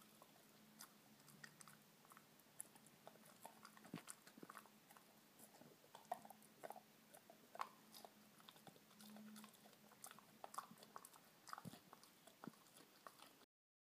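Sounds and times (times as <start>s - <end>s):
dog crunching a treat: 0.0s - 13.4s
dog licking: 0.0s - 13.4s.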